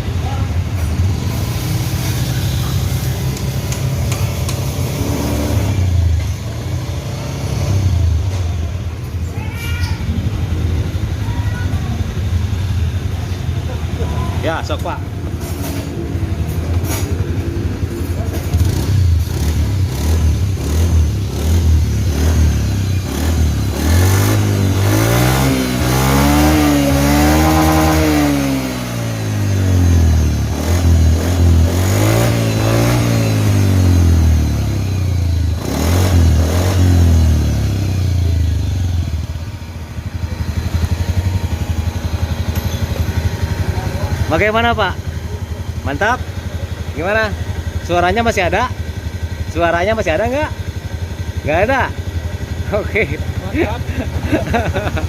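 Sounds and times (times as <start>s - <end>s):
scooter engine revving: 0.0s - 55.0s.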